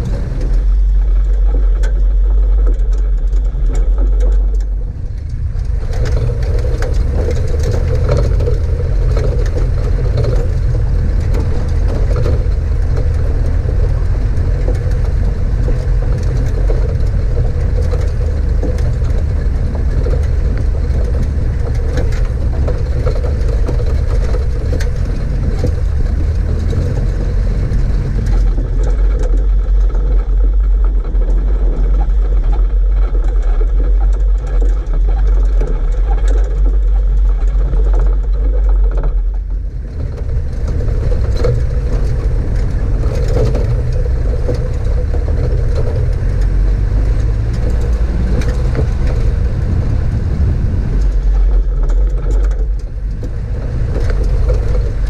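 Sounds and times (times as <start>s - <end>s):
knocks and rattles: 0.0s - 55.0s
vehicle rumbling over rocky track: 0.0s - 55.0s.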